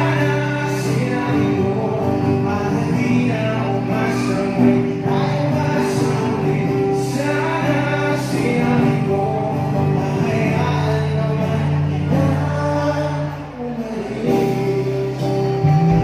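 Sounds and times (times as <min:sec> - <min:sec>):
band playing: 0:00.0 - 0:16.0
person singing: 0:00.0 - 0:16.0.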